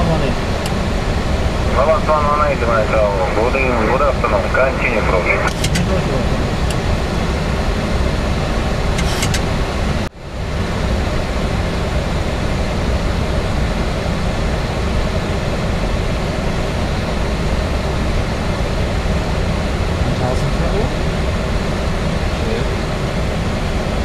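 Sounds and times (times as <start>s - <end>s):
airflow and engines rushing: 0.0s - 24.0s.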